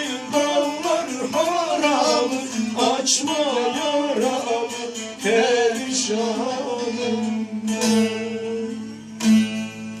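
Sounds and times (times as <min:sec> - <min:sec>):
person singing folk song: 0:00.0 - 0:10.0
plucked string instrument strumming: 0:00.0 - 0:10.0.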